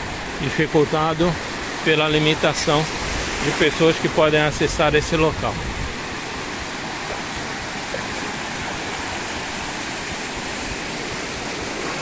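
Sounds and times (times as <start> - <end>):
surf washing over sand: 0.0 - 12.0.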